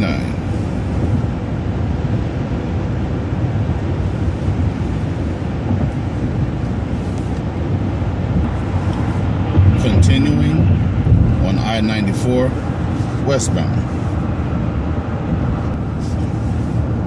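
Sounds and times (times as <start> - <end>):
bus road and engine noise: 0.0 - 17.0.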